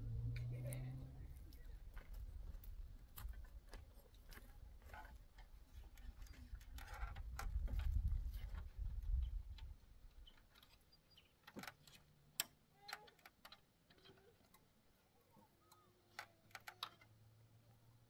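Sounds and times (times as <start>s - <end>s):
light clicks and knocks: 1.5s - 14.7s, 15.3s - 17.3s.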